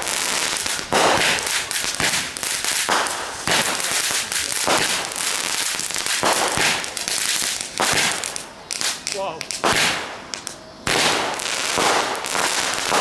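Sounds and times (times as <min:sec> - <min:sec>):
fireworks bangs with hiss: 0:00.0 - 0:13.0.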